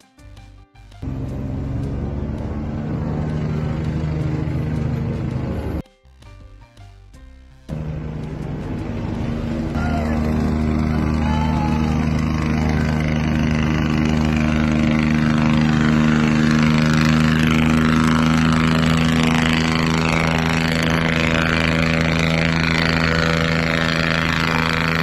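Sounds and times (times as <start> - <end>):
diesel engine running: 1.0 - 5.8, 7.7 - 25.0.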